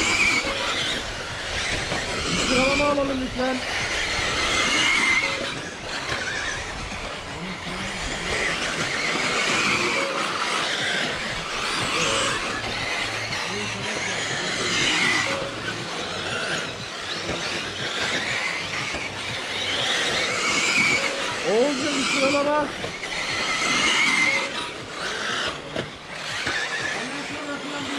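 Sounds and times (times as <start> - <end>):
electric motors whining: 0.0 - 27.9.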